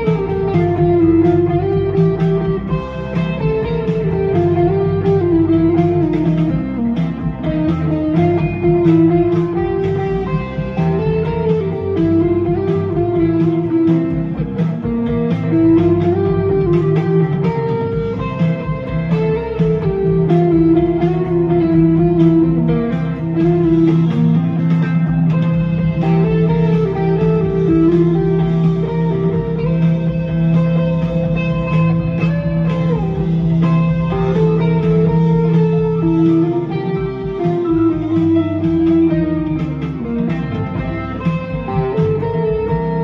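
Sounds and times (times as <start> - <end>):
electric guitar lead solo: 0.0 - 43.0.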